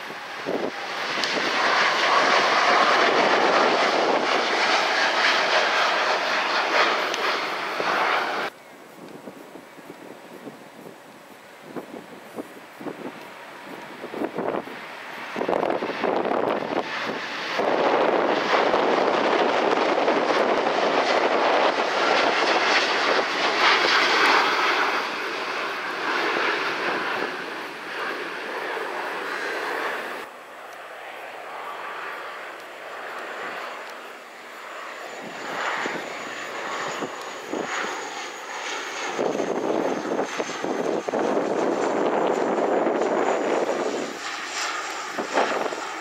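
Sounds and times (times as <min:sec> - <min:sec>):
jet engines at takeoff thrust: 0:00.0 - 0:46.0.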